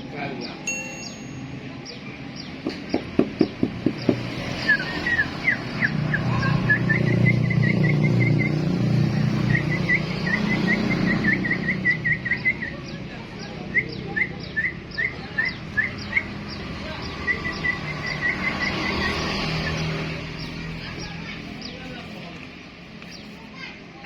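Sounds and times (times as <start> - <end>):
bulbul chirping: 0.7 - 23.4.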